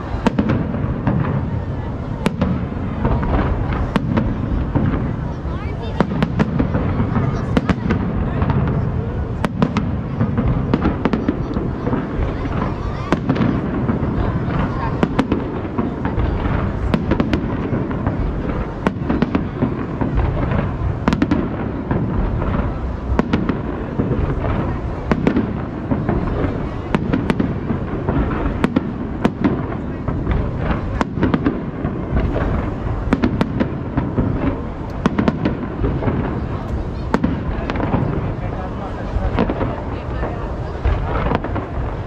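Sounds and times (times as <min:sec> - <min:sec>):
fireworks booming: 0:00.0 - 0:42.0
fireworks sharp cracks: 0:00.0 - 0:42.0.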